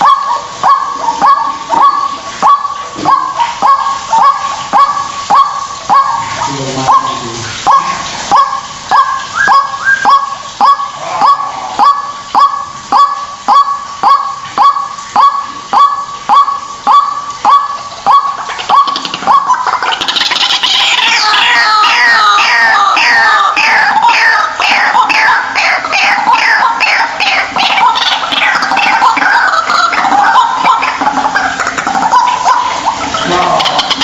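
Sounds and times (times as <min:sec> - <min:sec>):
waterhen calling: 0:00.0 - 0:34.0.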